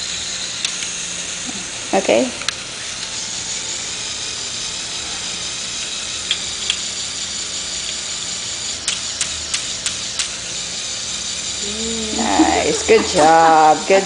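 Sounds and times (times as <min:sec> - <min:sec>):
toy motor gearing whirring: 0:00.0 - 0:14.0.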